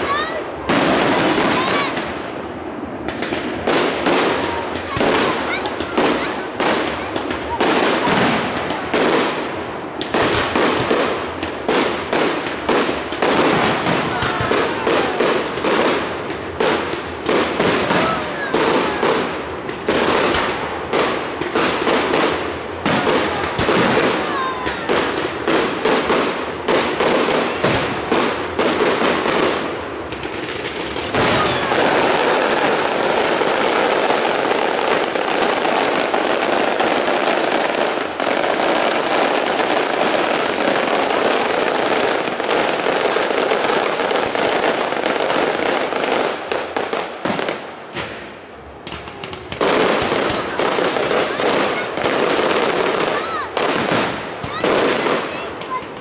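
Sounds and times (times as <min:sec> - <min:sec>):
fireworks bangs: 0:00.0 - 0:56.0
fireworks crackle: 0:00.0 - 0:56.0.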